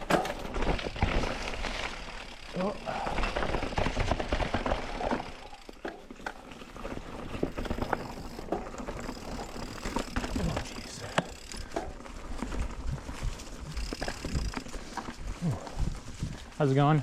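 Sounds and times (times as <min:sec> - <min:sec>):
bike knocks and rattles: 0:00.0 - 0:17.0
tyres on dirt and rock: 0:00.0 - 0:17.0.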